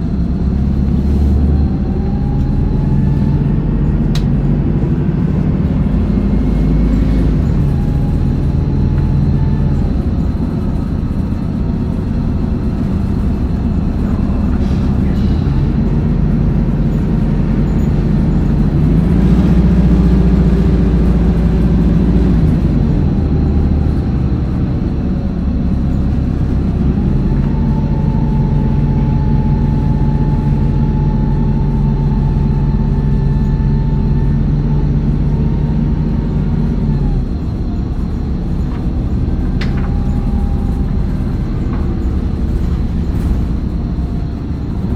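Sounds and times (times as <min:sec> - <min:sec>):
bus diesel engine running: 0:00.0 - 0:44.9
drivetrain whine: 0:00.0 - 0:44.9.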